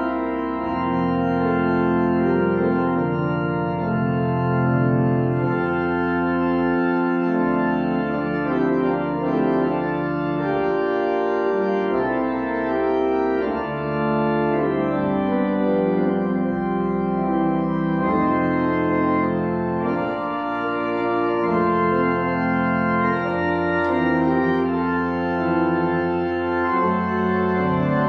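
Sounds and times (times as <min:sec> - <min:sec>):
church organ playing chords: 0:00.0 - 0:28.0.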